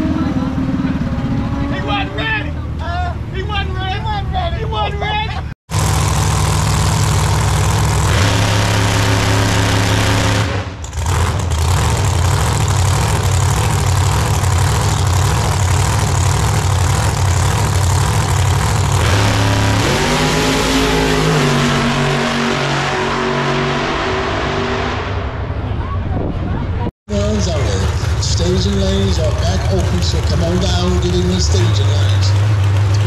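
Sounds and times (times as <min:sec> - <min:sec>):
loud vehicle engine running: 0:00.0 - 0:04.4, 0:05.2 - 0:33.0.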